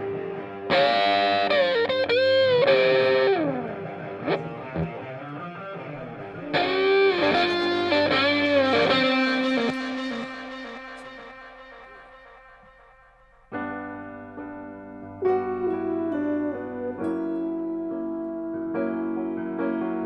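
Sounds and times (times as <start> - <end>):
distorted electric guitar melody: 0.0 - 20.0.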